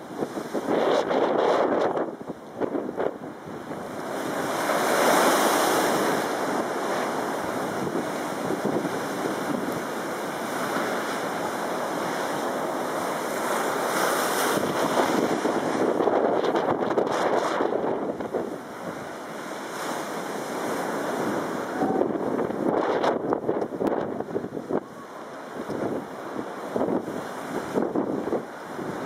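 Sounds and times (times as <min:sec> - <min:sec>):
surf breaking against sea wall: 0:00.0 - 0:29.0
wind buffeting microphone: 0:00.0 - 0:29.0.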